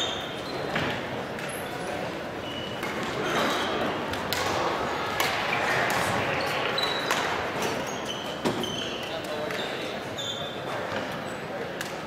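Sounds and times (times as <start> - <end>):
shoes squeaking on court floor: 0.0 - 4.0, 5.5 - 11.6
voices in sports hall: 0.0 - 12.0.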